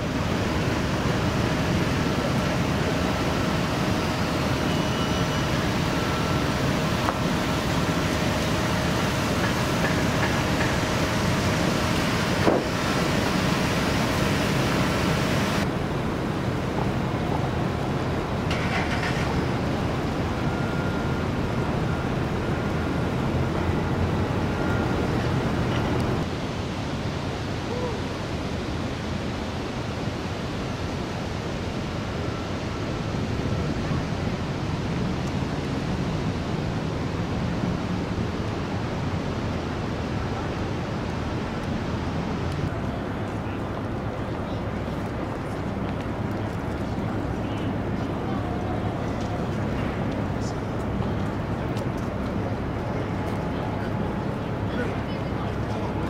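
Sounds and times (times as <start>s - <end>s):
city traffic noise: 0.0s - 56.0s.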